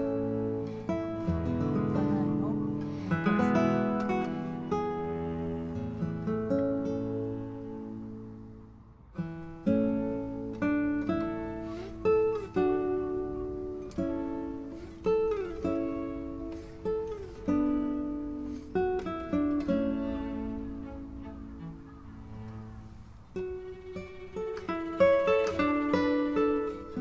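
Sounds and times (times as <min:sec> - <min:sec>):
acoustic guitar melody: 0:00.0 - 0:27.0.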